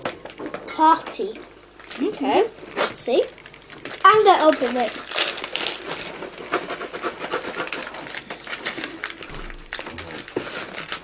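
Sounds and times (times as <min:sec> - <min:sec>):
plastic wrapper crinkling: 0:01.7 - 0:11.0.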